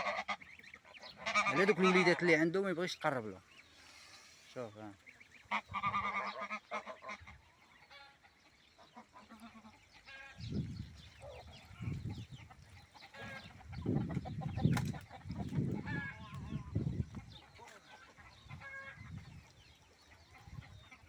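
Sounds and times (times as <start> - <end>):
bird honking calls: 0.0 - 19.4.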